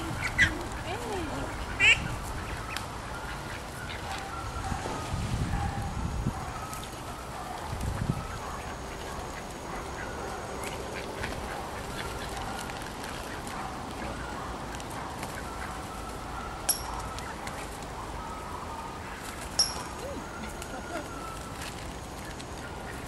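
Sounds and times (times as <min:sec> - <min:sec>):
ducks and geese calling: 0:00.0 - 0:05.1, 0:06.3 - 0:23.0.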